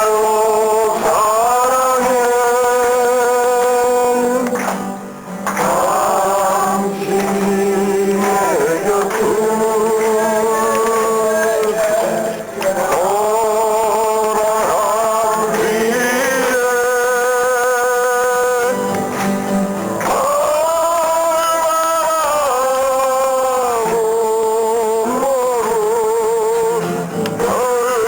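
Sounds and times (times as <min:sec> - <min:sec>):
person singing folk song: 0:00.0 - 0:28.0.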